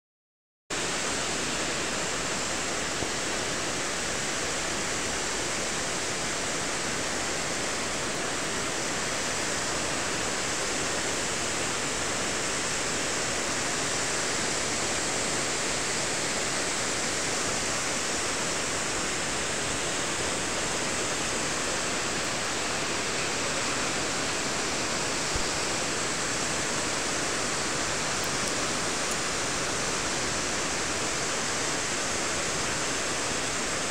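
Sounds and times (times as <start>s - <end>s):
waterfall roaring: 0.8s - 33.9s.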